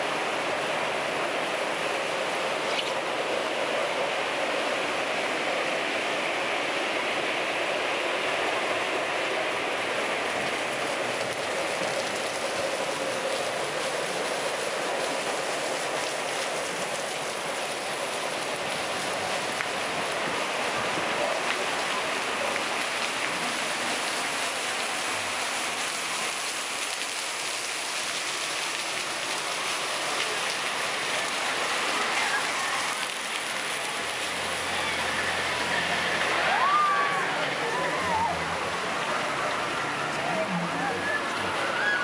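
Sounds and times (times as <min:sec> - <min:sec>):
water rushing and splashing: 0:00.0 - 0:42.0.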